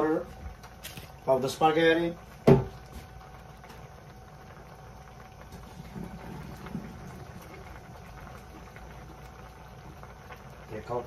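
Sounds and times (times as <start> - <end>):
low steady hum: 0.0 - 11.0
sauce bubbling in frying pan: 0.0 - 11.0.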